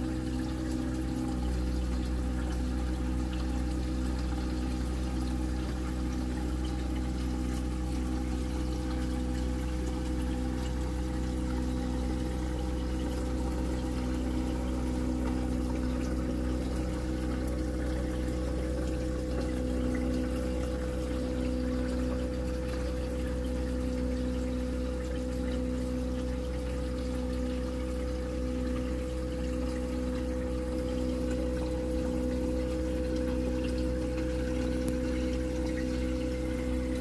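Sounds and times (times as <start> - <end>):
aquarium water pump humming: 0.0 - 37.0
water flowing through pipe: 0.0 - 37.0.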